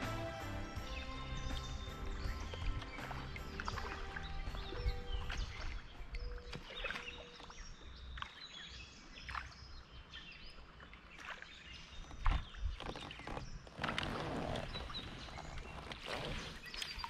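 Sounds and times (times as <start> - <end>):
water splashing: 0.0 - 8.6, 10.6 - 17.0
birds chirping: 0.0 - 17.0
creek ambience: 0.0 - 17.0.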